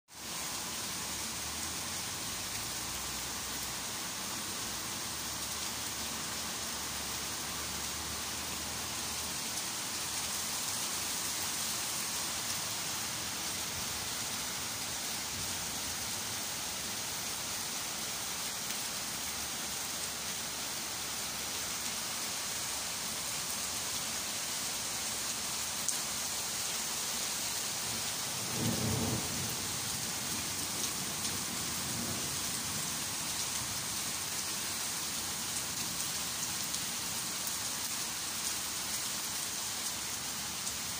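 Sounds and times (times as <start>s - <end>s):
heavy rain on leaves and pavement: 0.1s - 40.9s.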